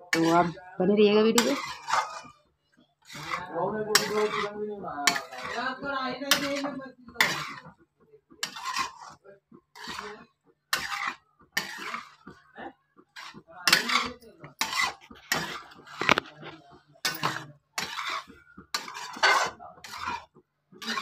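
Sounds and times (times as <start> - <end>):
metal spatula scraping pan: 0.0 - 21.0.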